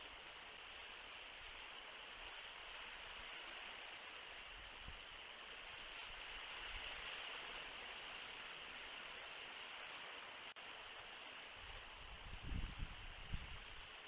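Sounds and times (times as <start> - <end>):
microphone hiss: 0.0 - 14.0.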